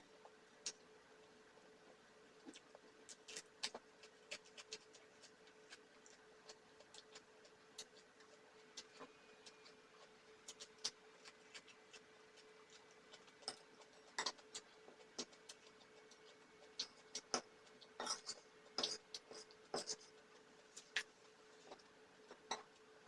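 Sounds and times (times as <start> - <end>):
faint steady hum: 0.0 - 23.0
quiet eating sounds: 0.0 - 23.0.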